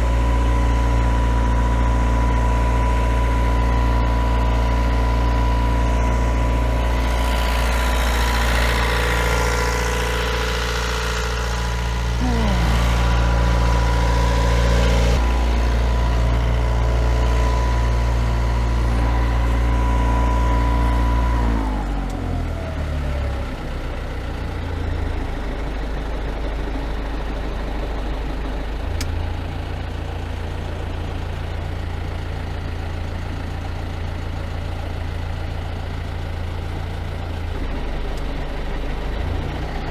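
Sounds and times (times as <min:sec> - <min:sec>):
marine diesel engine running: 0:00.0 - 0:36.6.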